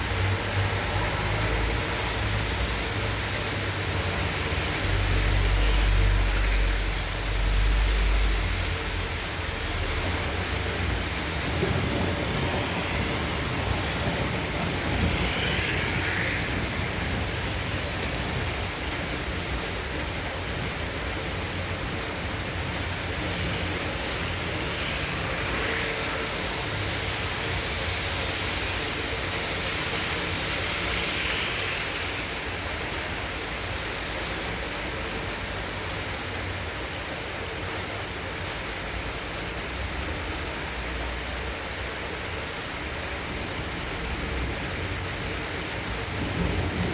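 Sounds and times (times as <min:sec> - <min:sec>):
heavy rain hiss: 0:00.0 - 0:46.9.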